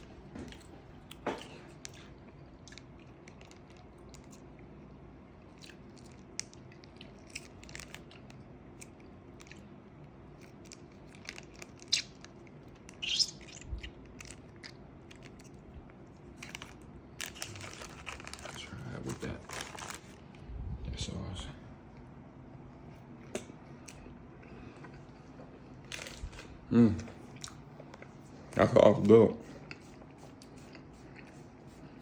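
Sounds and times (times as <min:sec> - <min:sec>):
person chewing food: 0:00.0 - 0:18.6, 0:22.9 - 0:28.5, 0:29.5 - 0:32.0.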